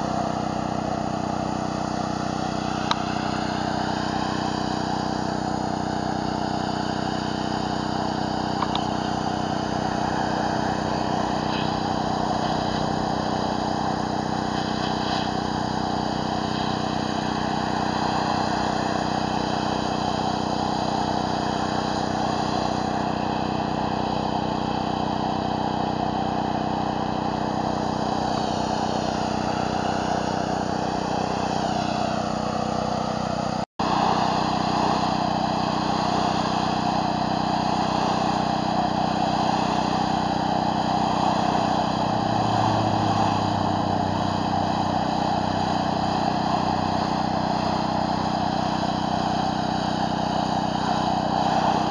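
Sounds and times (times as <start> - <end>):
pressure washer engine running: 0.0 - 51.9
water spraying onto concrete: 0.0 - 51.9.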